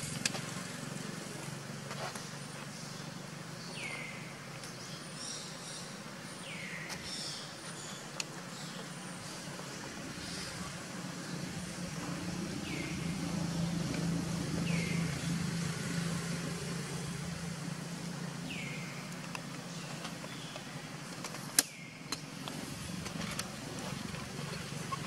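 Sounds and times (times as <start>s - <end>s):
vehicle engine hum passing: 0.0s - 4.4s, 7.7s - 25.0s.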